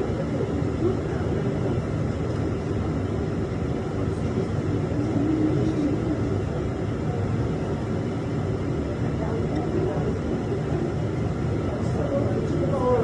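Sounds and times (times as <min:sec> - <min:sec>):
faint indistinct voices: 0:00.0 - 0:13.0
low background rumble: 0:00.0 - 0:13.0.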